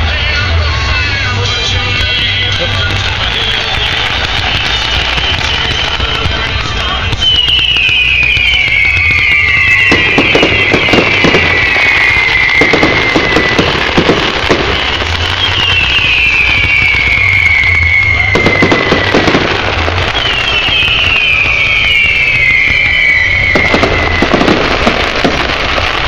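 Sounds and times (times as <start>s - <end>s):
firework bangs and crackling: 0.0s - 26.0s
whistling firework shells: 1.8s - 26.0s.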